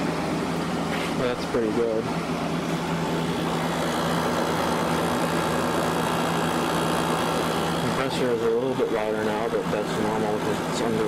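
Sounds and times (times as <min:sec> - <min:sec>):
air conditioner compressor humming: 0:00.0 - 0:11.0
fan blowing air: 0:00.0 - 0:11.0.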